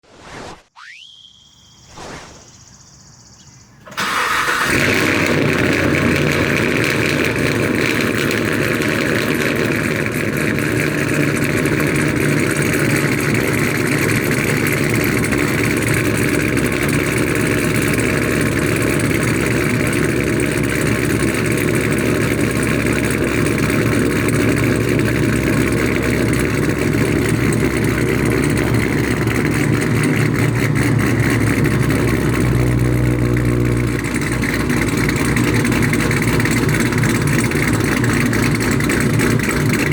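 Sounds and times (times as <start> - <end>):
car engine idling: 3.0 - 39.9.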